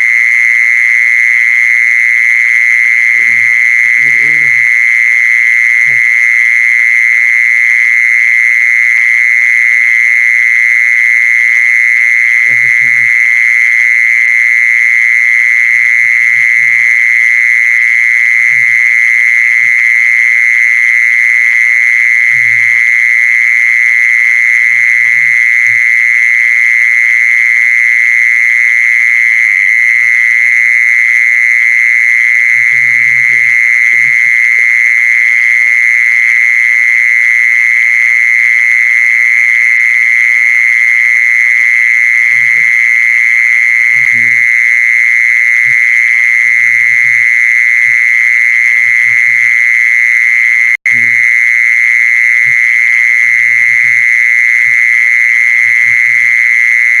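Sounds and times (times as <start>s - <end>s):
high-pitched buzzing animal call: 0.0s - 57.0s.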